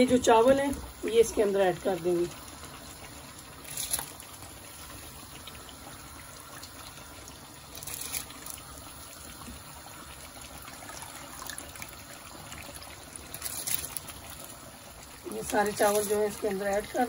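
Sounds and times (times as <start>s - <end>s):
water boiling in a pot: 0.0s - 17.0s.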